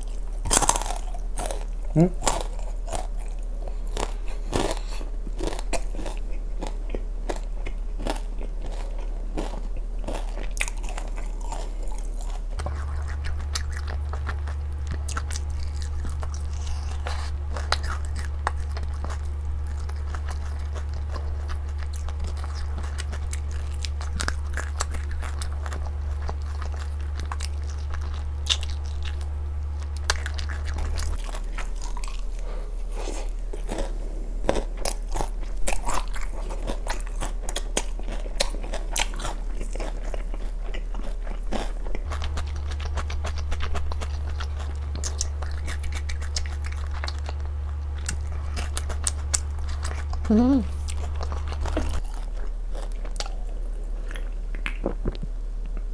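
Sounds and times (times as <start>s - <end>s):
low hum: 0.0s - 55.9s
person chewing crunchy food: 0.0s - 55.9s.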